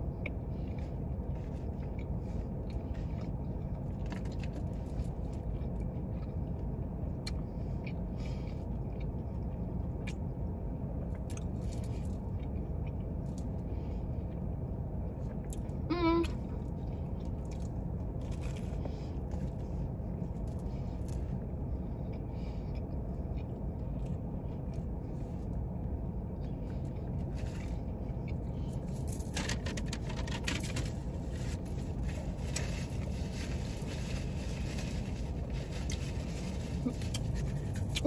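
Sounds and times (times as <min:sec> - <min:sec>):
chewing and handling food: 0:00.0 - 0:38.0
low rumble inside car: 0:00.0 - 0:38.0.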